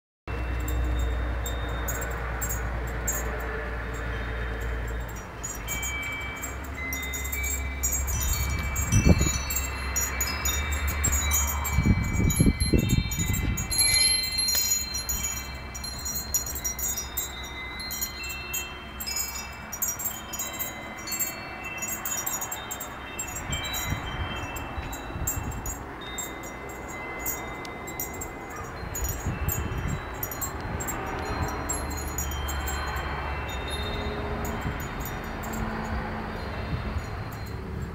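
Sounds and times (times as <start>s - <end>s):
wind chime tinkling: 0.3s - 37.9s.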